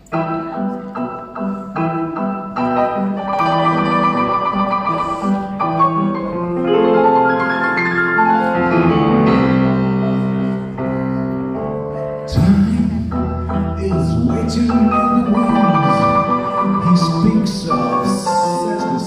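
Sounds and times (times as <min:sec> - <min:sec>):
piano playing chords: 0:00.0 - 0:19.0.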